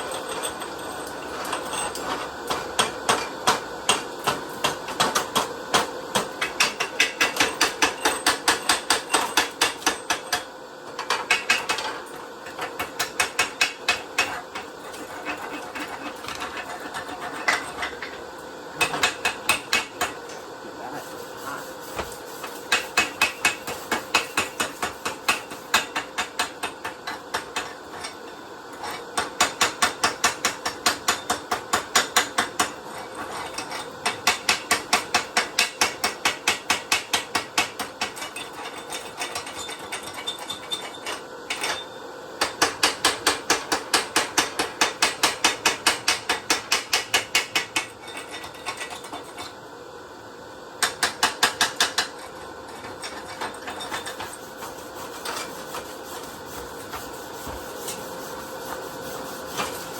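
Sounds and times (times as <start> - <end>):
steady shop hum: 0.0 - 59.9.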